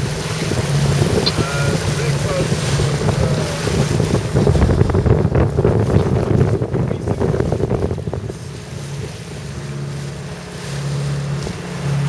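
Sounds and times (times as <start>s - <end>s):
low engine hum: 0.0s - 12.0s
water splashing along hull: 0.0s - 12.0s
wind buffeting microphone: 0.0s - 12.0s.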